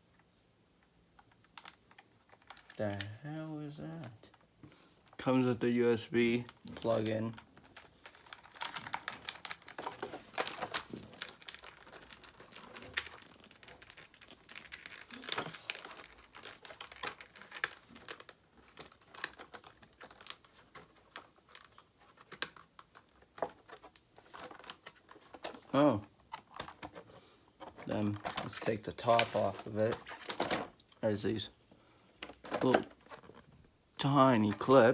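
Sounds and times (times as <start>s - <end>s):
clicks and crackles: 0.0s - 3.2s, 3.8s - 31.4s, 32.1s - 34.9s
plastic packaging crinkling: 1.2s - 3.1s, 3.9s - 31.4s, 32.2s - 34.9s.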